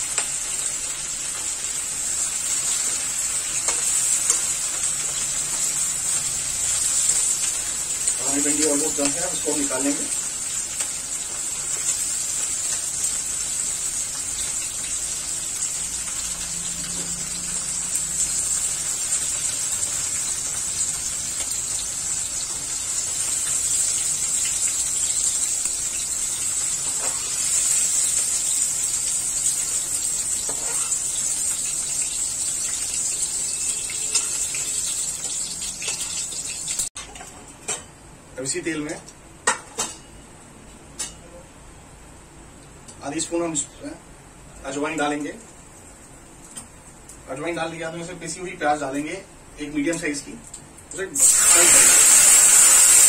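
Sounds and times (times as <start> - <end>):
vegetables deep-frying in oil: 0.0 - 53.0.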